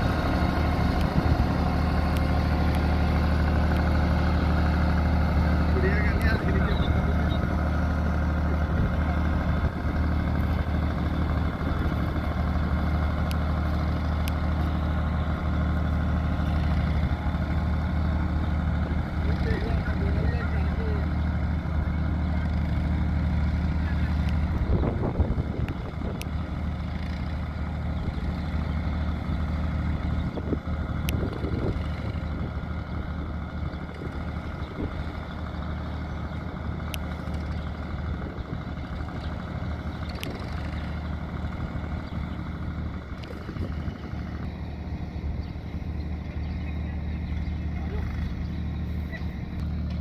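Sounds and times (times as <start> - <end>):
tractor engine humming: 0.0 - 50.0.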